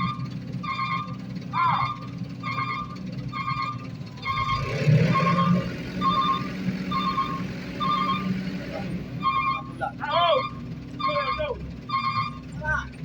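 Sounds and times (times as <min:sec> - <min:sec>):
backup alarm beeping: 0:00.0 - 0:08.4, 0:09.2 - 0:09.7, 0:10.3 - 0:12.5
diesel engine running: 0:00.0 - 0:13.0.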